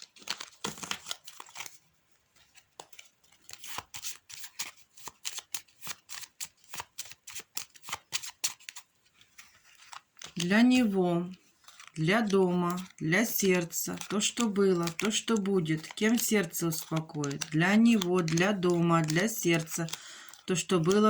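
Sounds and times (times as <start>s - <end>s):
playing cards being shuffled: 0.0s - 21.0s.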